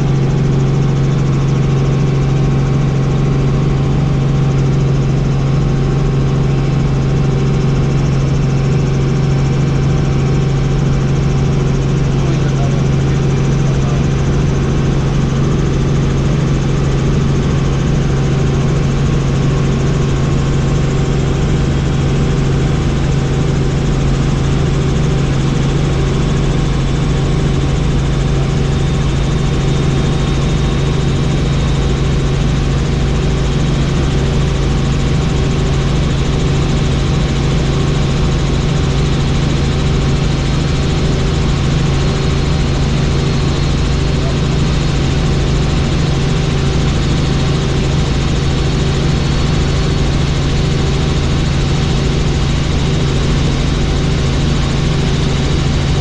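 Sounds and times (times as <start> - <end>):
helicopter droning: 0.0 - 56.0.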